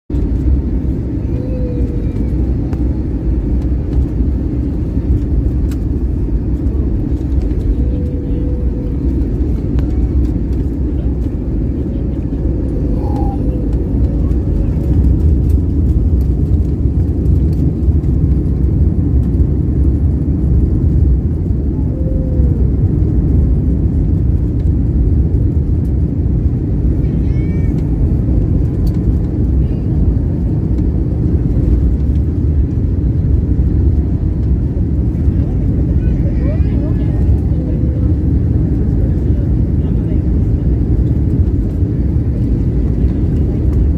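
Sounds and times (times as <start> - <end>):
airliner low rumble: 0.1 - 43.9.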